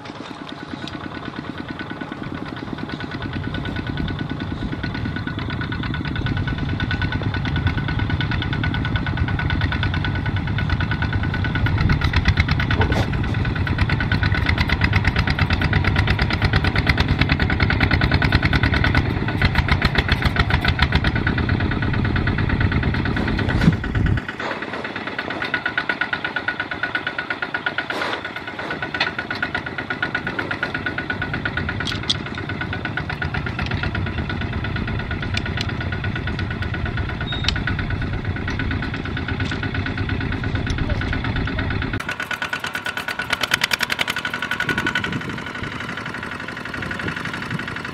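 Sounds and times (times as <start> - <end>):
diesel tractor engines chugging: 0.0 - 47.9.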